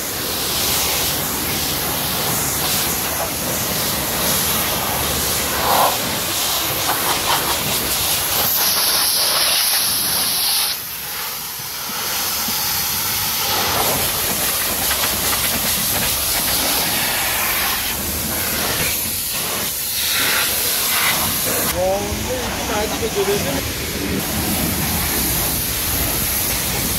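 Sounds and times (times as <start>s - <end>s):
pressure washer spraying car: 0.0s - 26.9s.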